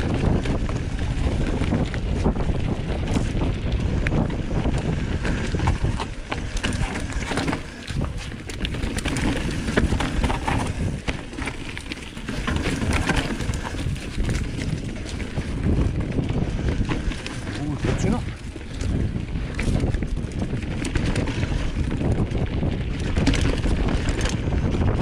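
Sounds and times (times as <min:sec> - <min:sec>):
bike rattling over roots: 0:00.0 - 0:25.0
wind rumble on microphone: 0:00.0 - 0:25.0.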